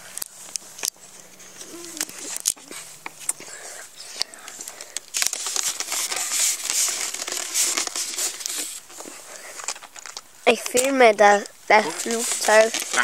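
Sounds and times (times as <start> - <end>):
rustling crinkling handling noise: 0.0 - 13.0.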